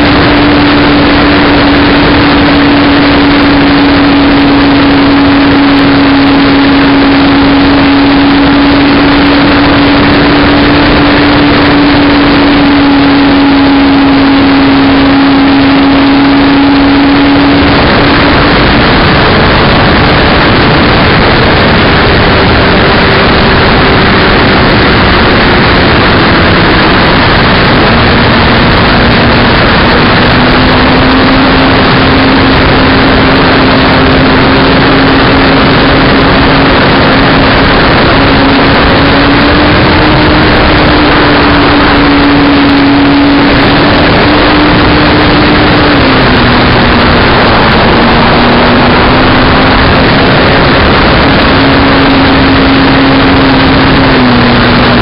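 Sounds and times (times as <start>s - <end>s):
wavering hum: 0.0s - 55.0s
wind rushing over microphone: 0.0s - 55.0s.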